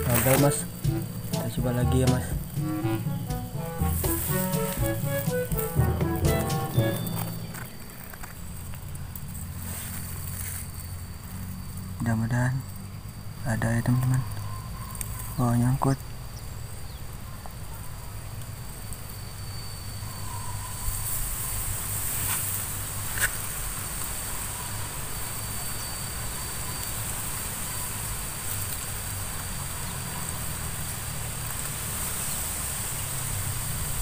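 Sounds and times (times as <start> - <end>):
insects buzzing: 0.0 - 34.0.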